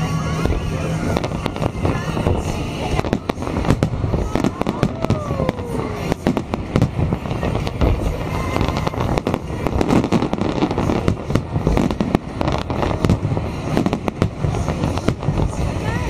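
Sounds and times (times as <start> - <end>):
low rumble: 0.0 - 16.0
firework shells bursting: 0.4 - 16.0.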